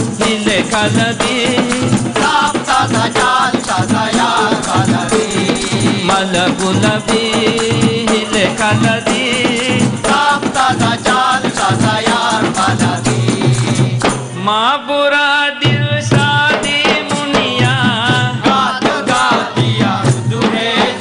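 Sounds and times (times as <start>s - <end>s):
drums beating fast rhythm: 0.0s - 14.6s, 15.6s - 21.0s
lead and chorus singing: 0.0s - 21.0s.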